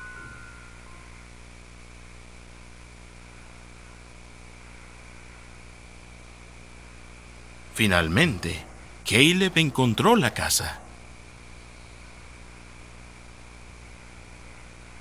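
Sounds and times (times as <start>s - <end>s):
low electrical hum with hiss: 0.0s - 15.0s.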